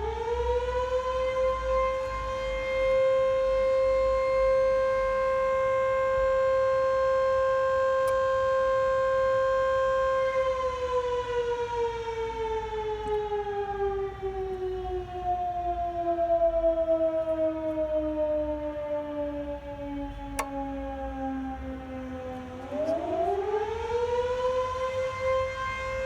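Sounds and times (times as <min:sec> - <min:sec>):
civil defence siren: 0:00.0 - 0:26.0.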